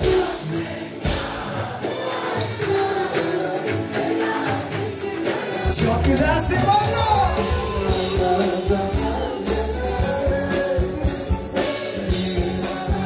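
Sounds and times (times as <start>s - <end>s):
live pop band playing: 0.0s - 13.0s
man singing: 2.4s - 13.0s.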